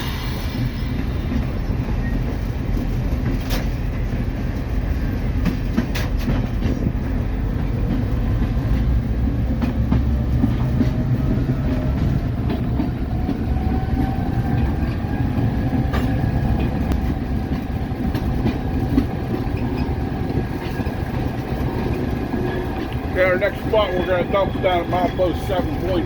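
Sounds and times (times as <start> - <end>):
rail car wheels rumbling: 0.0 - 26.0.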